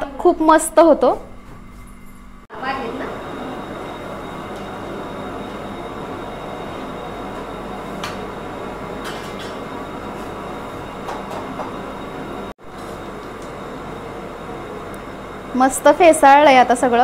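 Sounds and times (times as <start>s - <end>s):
pot boiling with rushing noise: 2.3s - 17.0s.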